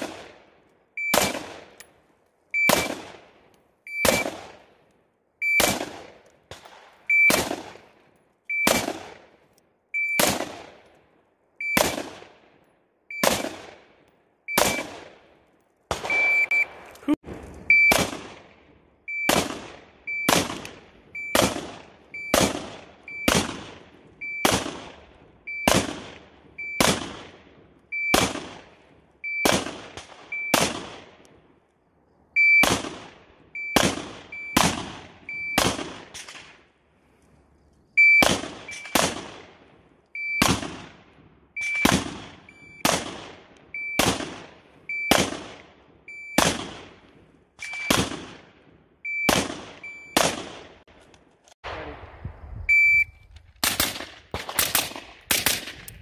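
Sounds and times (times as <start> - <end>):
rifle shots with echo: 0.0 - 2.0, 2.6 - 11.0, 11.6 - 31.6, 32.4 - 36.8, 38.0 - 51.0, 53.6 - 56.0.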